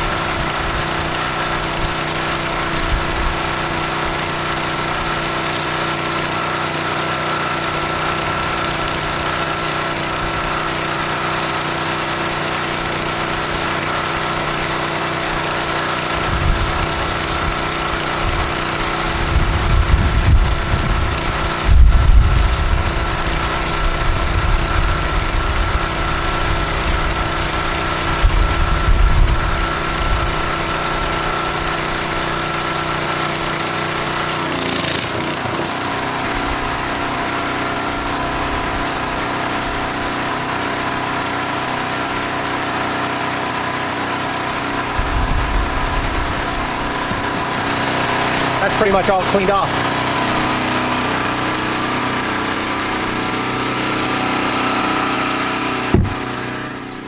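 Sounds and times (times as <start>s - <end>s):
pressure washer engine running: 0.0s - 57.0s.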